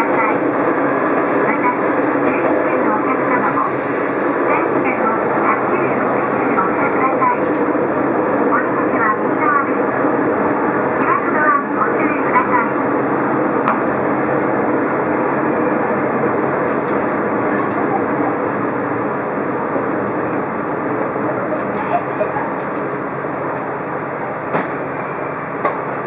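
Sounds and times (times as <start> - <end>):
railcar engine drone: 0.0 - 26.0.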